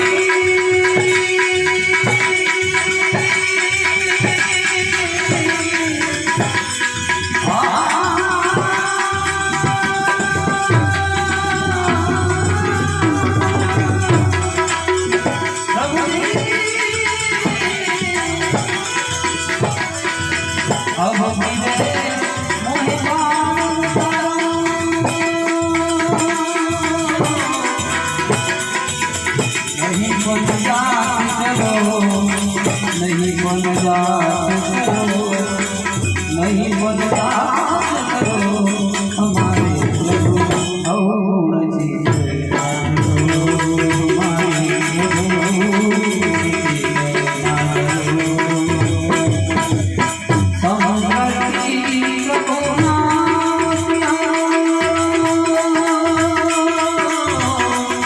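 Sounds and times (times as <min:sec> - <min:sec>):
harmonium melody: 0:00.0 - 0:58.0
jingling hand percussion: 0:00.0 - 0:58.0
person singing: 0:00.0 - 0:58.0.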